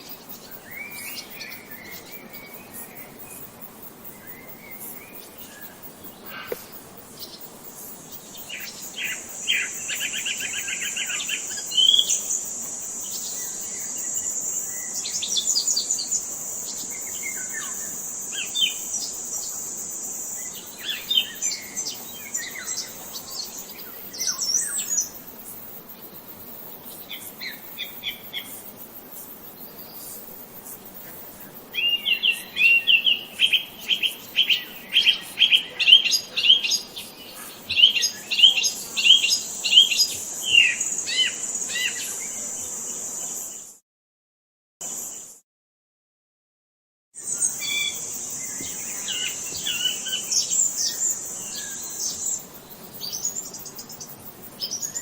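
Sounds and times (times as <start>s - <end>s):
songbirds chirping and trilling: 0.0s - 43.7s, 47.2s - 55.0s.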